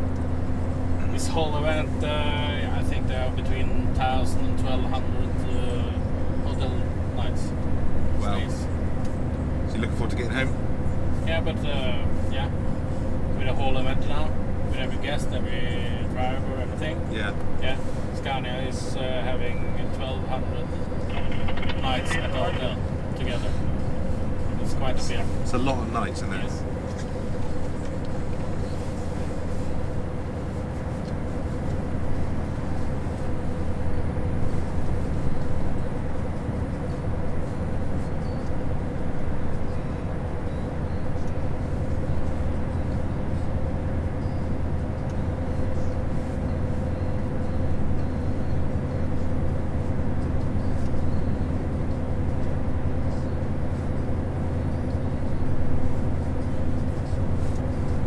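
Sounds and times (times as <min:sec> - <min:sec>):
road and tyre noise: 0:00.0 - 0:58.0
truck engine drone: 0:00.0 - 0:58.0.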